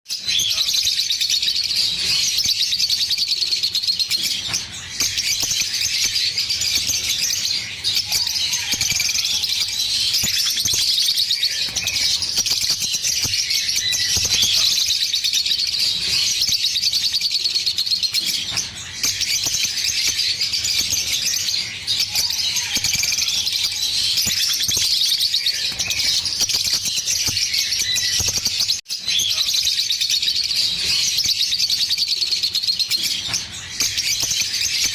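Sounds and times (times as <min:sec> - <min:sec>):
lovebirds high chirping chatter: 0:00.1 - 0:34.9.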